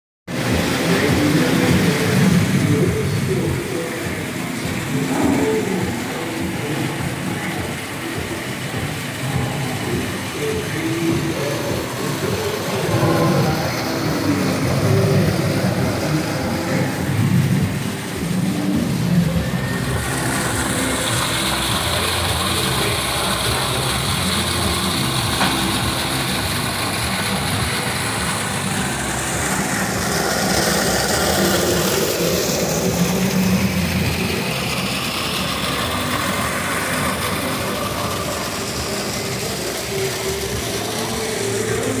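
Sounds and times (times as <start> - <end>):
waterfall pouring into pool: 0.3 - 42.0.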